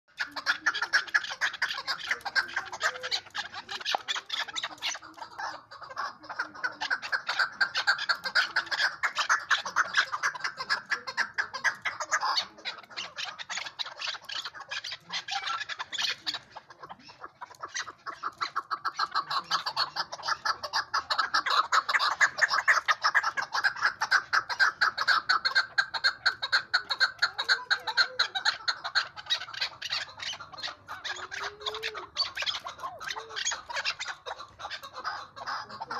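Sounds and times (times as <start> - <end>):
partridge calling: 0.1 - 35.9.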